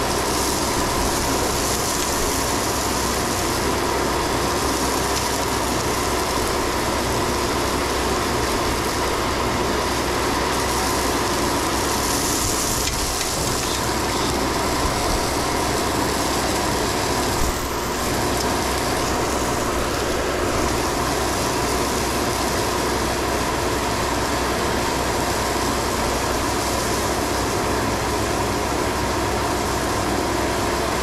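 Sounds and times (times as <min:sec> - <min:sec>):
truck engine running: 0:00.0 - 0:31.0.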